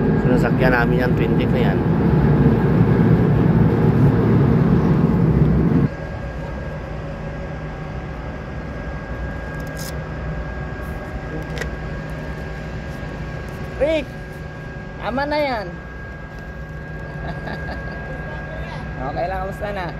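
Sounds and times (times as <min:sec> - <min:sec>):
crane machinery rumbling: 0:00.0 - 0:19.1
thin high whine: 0:00.0 - 0:19.9.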